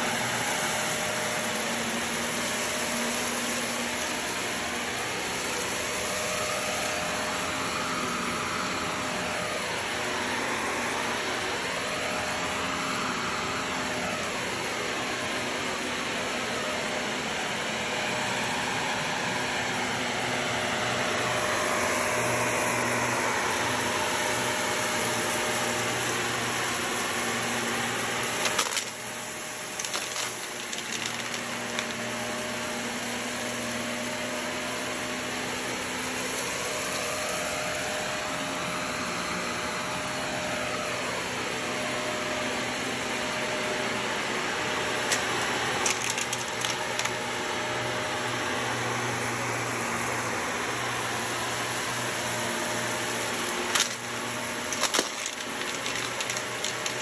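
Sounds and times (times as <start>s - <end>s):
upright vacuum cleaner running: 0.0s - 57.0s.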